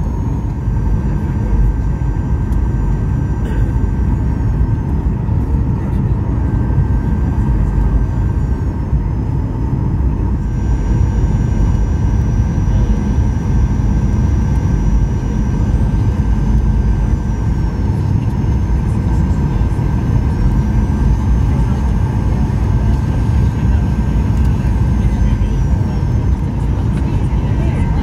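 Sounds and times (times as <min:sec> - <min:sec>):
aircraft cabin rumble: 0:00.0 - 0:28.0
high engine whine: 0:00.0 - 0:28.0.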